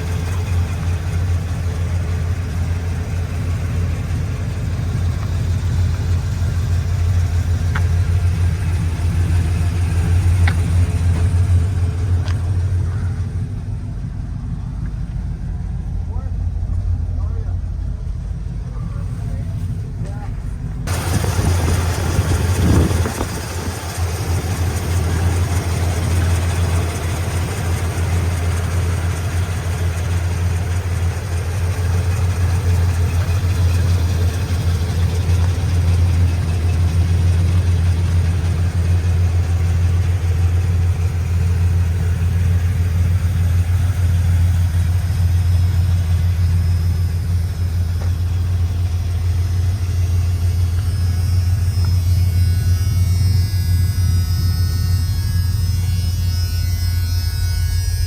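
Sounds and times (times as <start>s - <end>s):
engine revving: 0.0s - 58.0s
truck engine idling: 0.0s - 58.0s.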